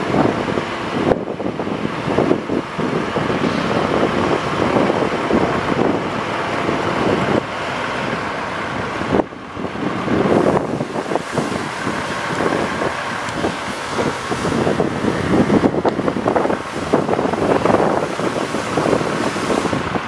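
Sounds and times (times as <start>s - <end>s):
diesel engine running: 0.0s - 20.0s
wind buffeting microphone: 0.0s - 20.0s.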